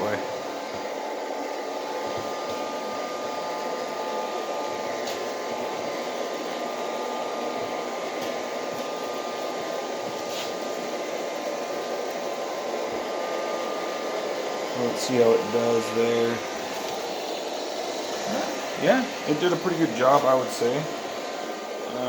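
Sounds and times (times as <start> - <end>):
robot vacuum whirring: 0.0 - 22.0
thin steady whine: 0.0 - 22.0.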